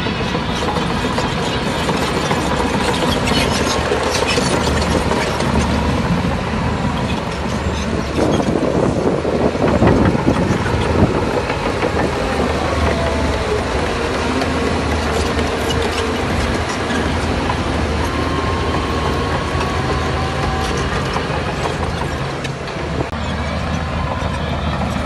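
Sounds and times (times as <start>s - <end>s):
diesel engine running: 0.0s - 25.0s
metallic clanking of tracks: 0.0s - 25.0s.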